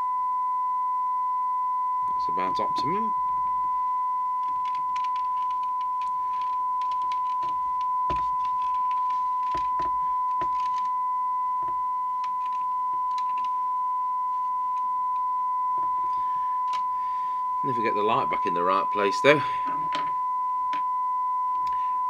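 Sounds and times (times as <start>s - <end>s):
steady single-pitch test tone: 0.0s - 22.0s.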